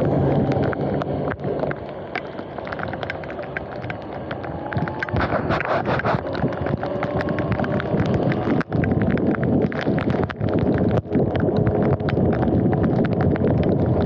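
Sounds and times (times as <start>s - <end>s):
tyre noise on wet road: 0.0s - 14.0s
water spattering ticks: 0.0s - 14.0s
wind rush on microphone: 0.0s - 14.0s.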